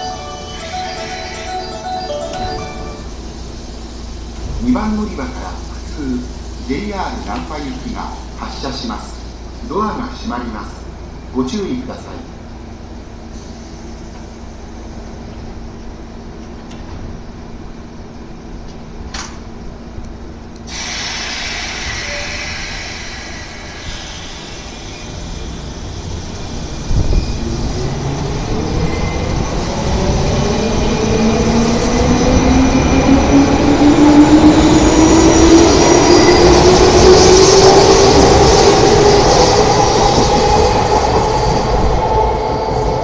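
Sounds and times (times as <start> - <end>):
electric train humming: 0.0 - 11.2, 12.2 - 43.0.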